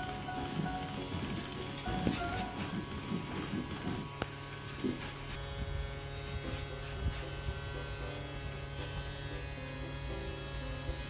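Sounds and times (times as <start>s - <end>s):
toy vacuum motor humming: 0.0s - 11.0s.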